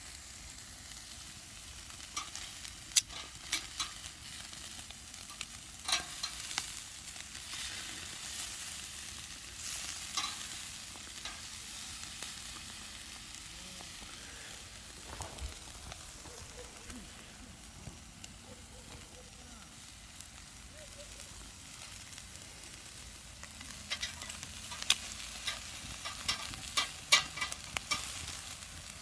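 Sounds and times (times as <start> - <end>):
meat sizzling on grill: 0.0 - 29.0
wood fire crackles and pops: 0.0 - 29.0.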